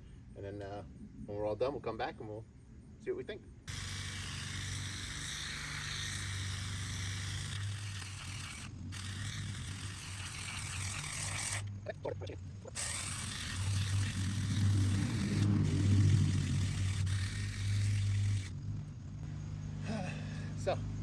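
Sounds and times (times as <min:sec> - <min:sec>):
small engine humming: 0:03.7 - 0:21.0.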